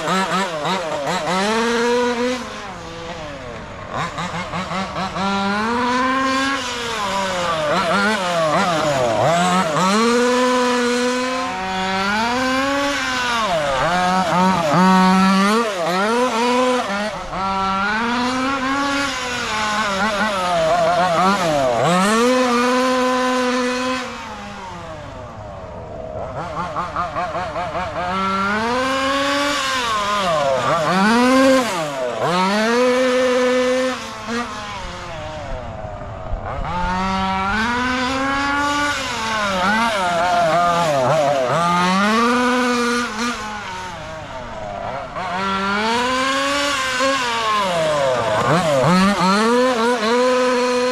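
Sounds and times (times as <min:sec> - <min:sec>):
rc car engine revving: 0:00.0 - 0:50.9.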